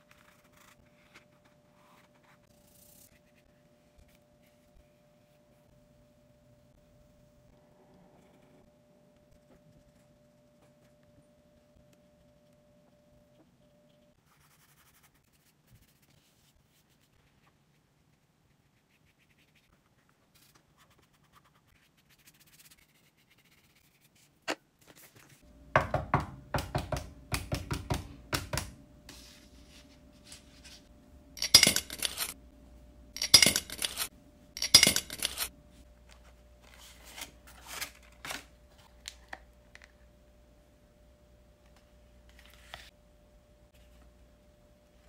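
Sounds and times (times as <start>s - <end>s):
faint steady hum: 0.0s - 18.9s, 25.2s - 45.0s.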